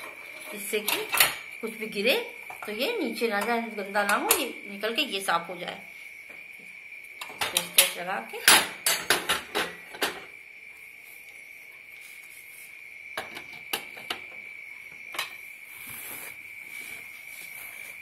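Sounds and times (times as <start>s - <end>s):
steady high-pitched whine: 0.0s - 18.0s.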